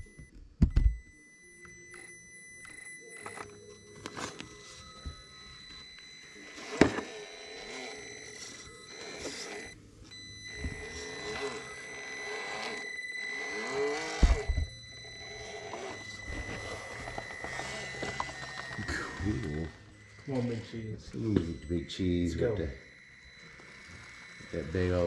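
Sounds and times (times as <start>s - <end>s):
thin steady high tone: 0.9s - 25.0s
small electric motor whining: 1.1s - 25.0s.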